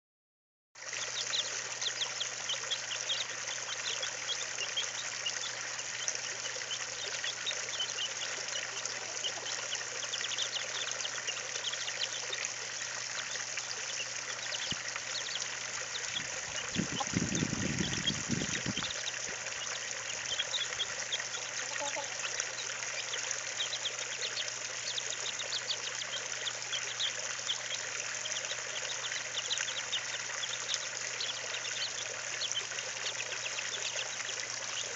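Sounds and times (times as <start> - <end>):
chicks peeping: 1.0 - 34.9.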